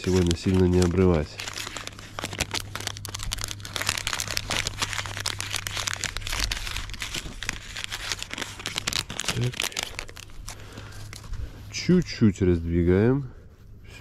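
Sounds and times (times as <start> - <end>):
plastic packaging crinkling: 0.0 - 12.1
steady low hum: 0.0 - 14.0.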